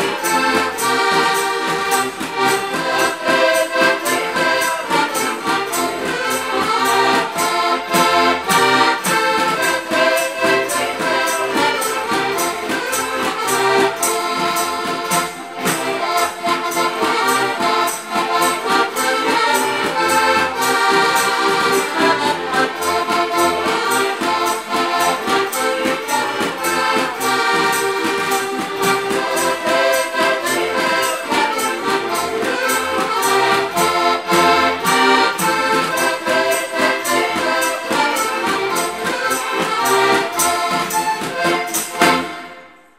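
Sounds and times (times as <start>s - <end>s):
button accordions playing folk tune: 0.0s - 42.9s.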